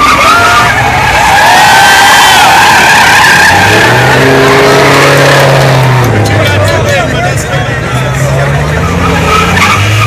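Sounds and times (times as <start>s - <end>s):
tires squealing and skidding: 0.0s - 10.0s
truck engine revving high: 0.0s - 10.0s.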